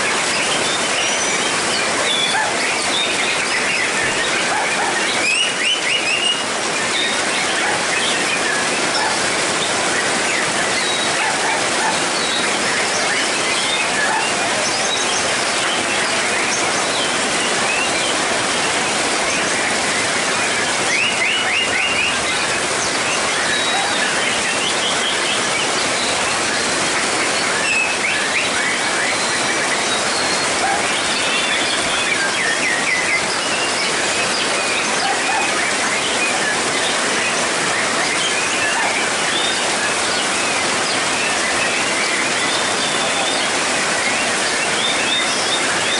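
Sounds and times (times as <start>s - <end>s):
heavy rain on a roof: 0.0s - 45.9s
songbird singing: 0.0s - 45.9s.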